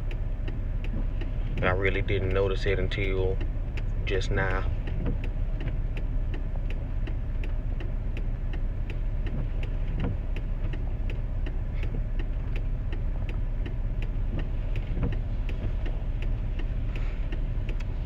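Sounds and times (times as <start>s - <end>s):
light ticking: 0.0s - 18.0s
road and engine rumble: 0.0s - 18.0s.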